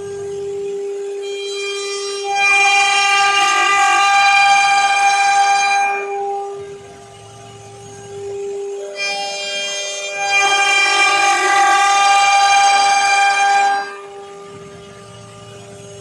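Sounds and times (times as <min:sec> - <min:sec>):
router spindle whining: 0:00.0 - 0:16.0
router bit cutting wood: 0:02.2 - 0:16.0.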